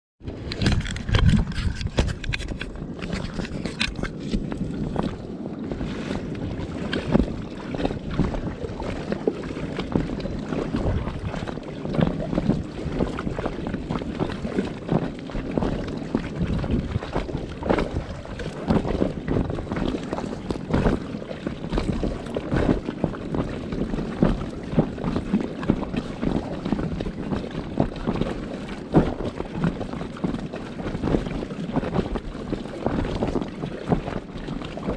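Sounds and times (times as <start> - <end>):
water noise: 0.2 - 34.9
wind buffeting microphone: 0.2 - 34.9.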